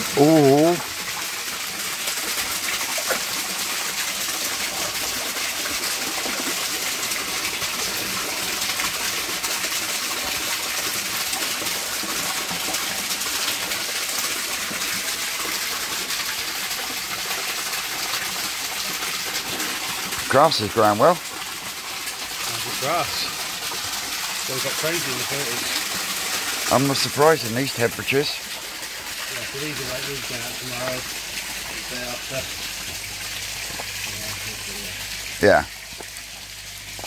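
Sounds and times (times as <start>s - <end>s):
water splashing into pond: 0.0s - 37.0s.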